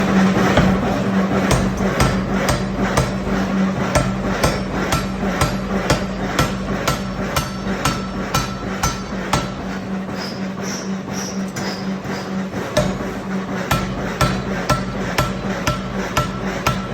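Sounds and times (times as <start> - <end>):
low machine hum: 0.0 - 16.9
hammer blows on metal: 1.5 - 11.9, 12.8 - 16.9.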